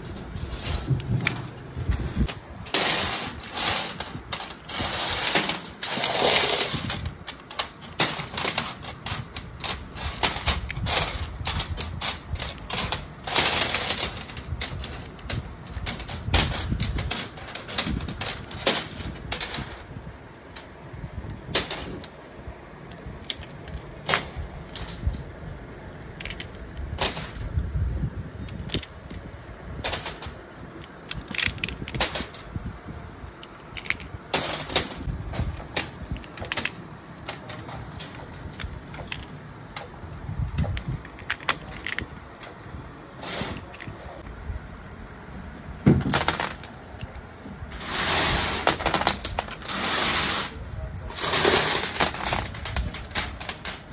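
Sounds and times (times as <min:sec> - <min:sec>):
small hard parts clattering: 0:00.0 - 0:27.8, 0:28.4 - 0:53.9.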